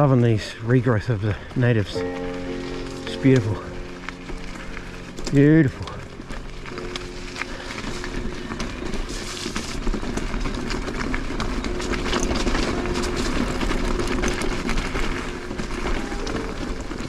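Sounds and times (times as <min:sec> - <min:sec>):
bike rattling clicks and knocks: 0:00.0 - 0:17.0
bike tyres crunching over gravel: 0:00.0 - 0:17.0.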